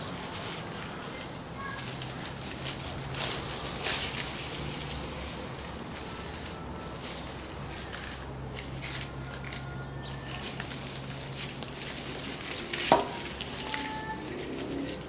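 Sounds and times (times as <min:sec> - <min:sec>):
bag rustling and crinkling: 0:00.0 - 0:15.0.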